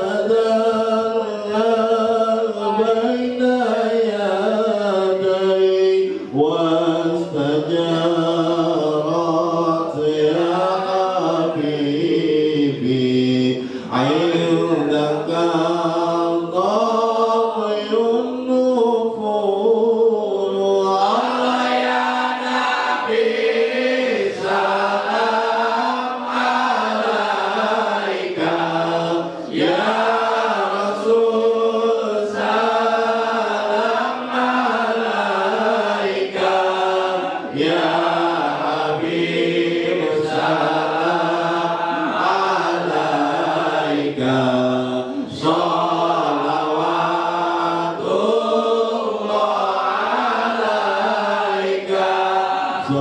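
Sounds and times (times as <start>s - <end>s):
man chanting into a microphone: 0.0s - 23.2s, 23.9s - 53.0s.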